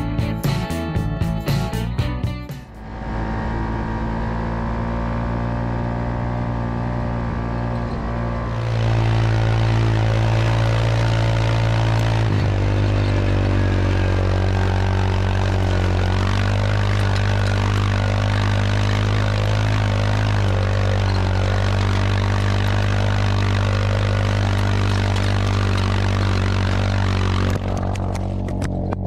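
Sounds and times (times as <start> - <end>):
single-cylinder engine running: 2.7 - 29.0.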